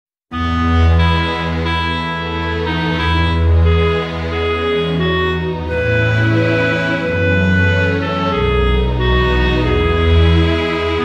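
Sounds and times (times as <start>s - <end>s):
instrumental music with low bass: 0.3s - 11.0s.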